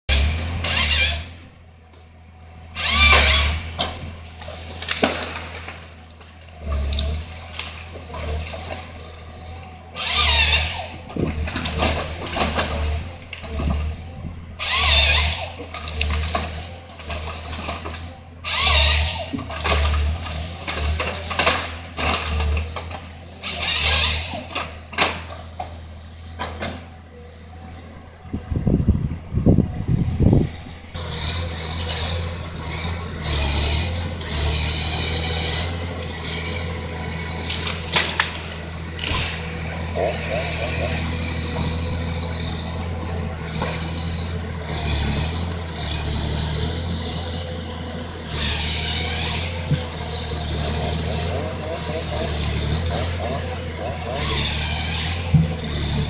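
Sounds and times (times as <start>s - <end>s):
diesel engine running: 0.0s - 56.0s
loud noisy machine bursts: 0.1s - 26.9s, 28.5s - 56.0s.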